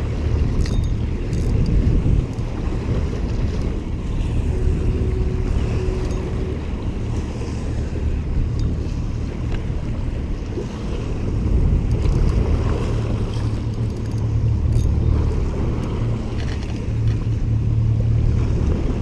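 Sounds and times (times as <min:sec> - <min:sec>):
low rumble of wind and water: 0:00.0 - 0:19.0.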